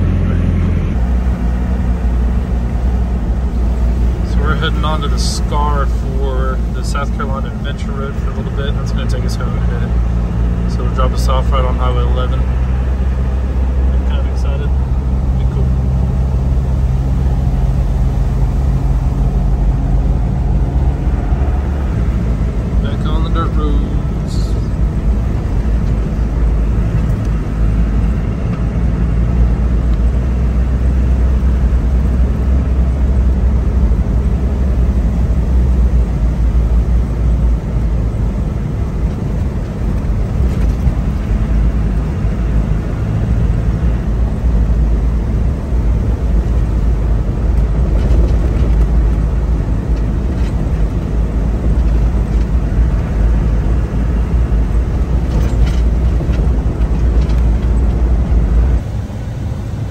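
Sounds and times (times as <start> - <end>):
diesel engine drone: 0.0 - 59.9.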